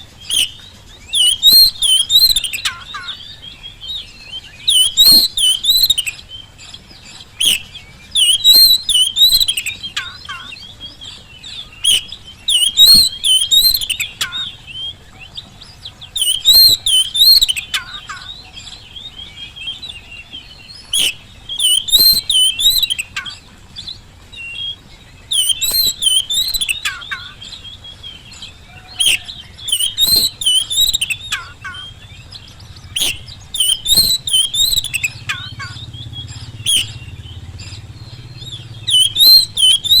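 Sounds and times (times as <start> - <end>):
bird singing varied song: 0.0 - 40.0.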